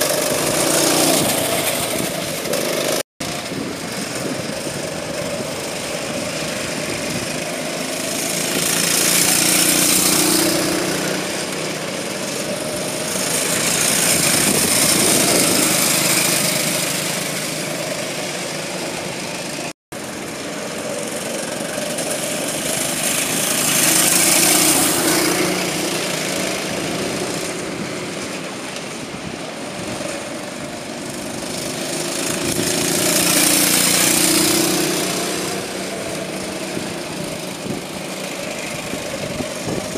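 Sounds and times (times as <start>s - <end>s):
racing kart engines: 0.0s - 39.9s.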